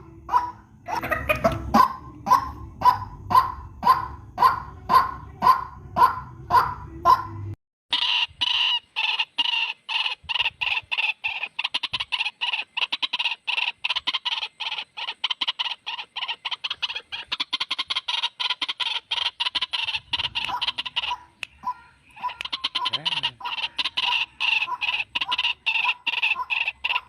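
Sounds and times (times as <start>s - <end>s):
bird calling harsh notes: 0.0s - 27.0s.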